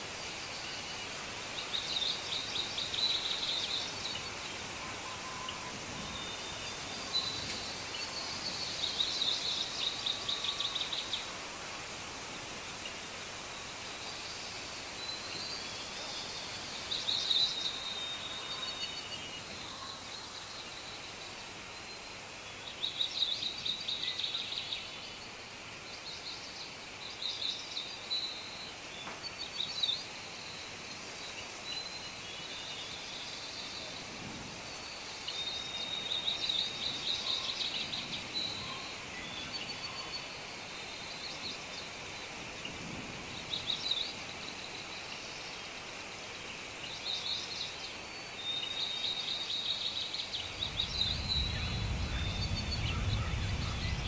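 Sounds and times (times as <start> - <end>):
songbirds chirping and trilling: 0.0 - 54.0
steady background hiss: 0.0 - 54.0.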